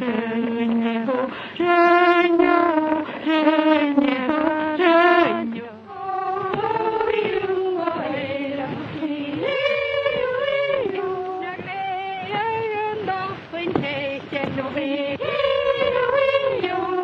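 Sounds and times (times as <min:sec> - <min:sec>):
woman singing slow melody: 0:00.0 - 0:17.0.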